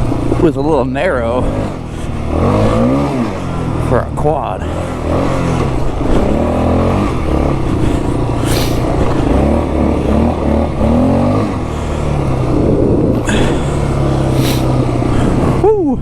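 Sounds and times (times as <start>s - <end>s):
quad engine revving: 0.0s - 16.0s.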